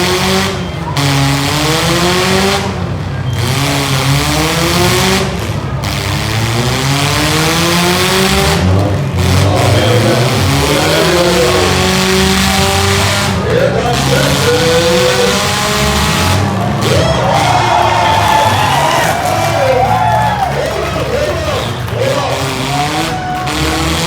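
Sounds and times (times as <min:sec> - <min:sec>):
car engines revving hard: 0:00.0 - 0:24.0
loud steady din: 0:00.0 - 0:24.0.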